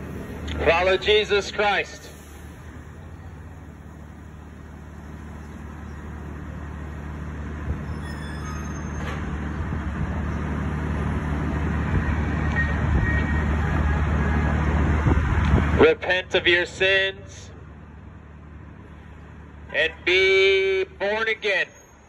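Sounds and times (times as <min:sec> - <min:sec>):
bus engine rumbling: 0:00.0 - 0:22.0.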